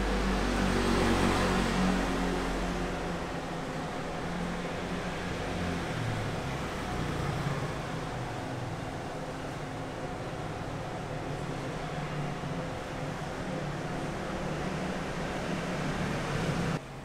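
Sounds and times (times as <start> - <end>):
vehicle passing: 0.0 - 16.8
low traffic rumble: 0.0 - 17.0.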